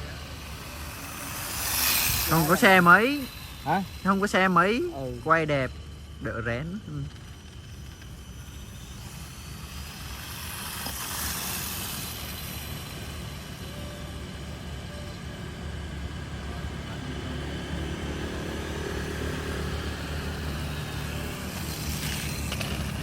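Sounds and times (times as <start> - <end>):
passing hiss: 0.0 - 23.0
toy motorbike engine rumble: 0.0 - 23.0.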